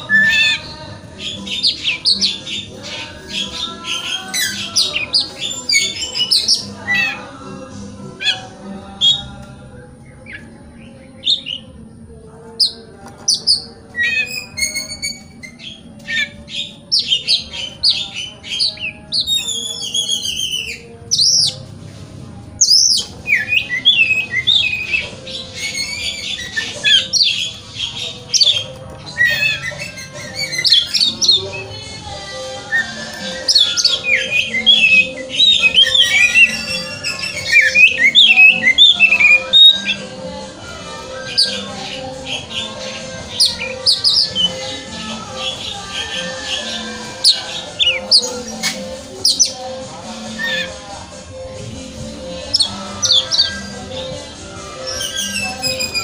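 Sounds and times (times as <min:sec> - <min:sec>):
songbird singing: 0:00.0 - 0:21.9, 0:22.6 - 0:56.0.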